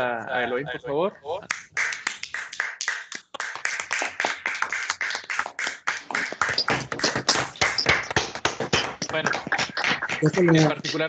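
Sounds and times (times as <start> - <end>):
people clapping over microphones: 1.5 - 11.0.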